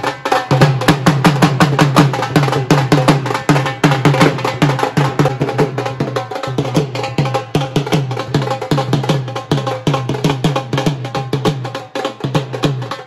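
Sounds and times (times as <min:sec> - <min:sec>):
drum played with sticks: 0:00.0 - 0:13.0.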